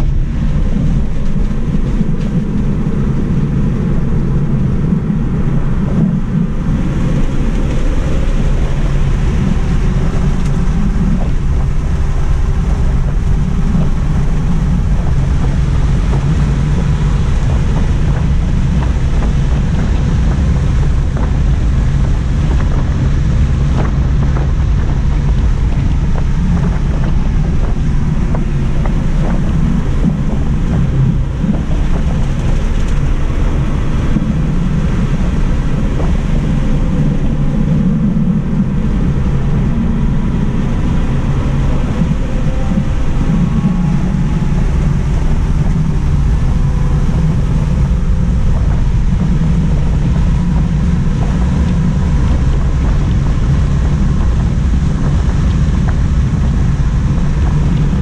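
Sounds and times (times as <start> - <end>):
road and wind noise in car: 0.0 - 58.0.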